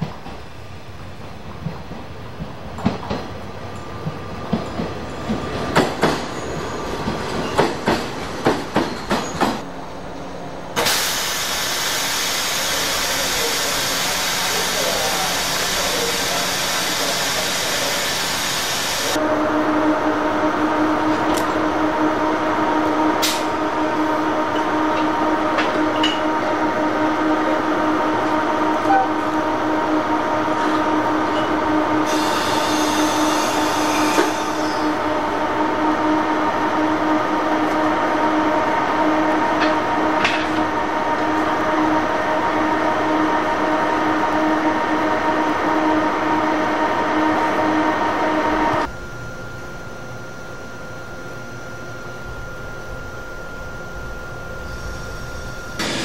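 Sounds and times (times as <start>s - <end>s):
electric hum of train: 0.0s - 56.0s.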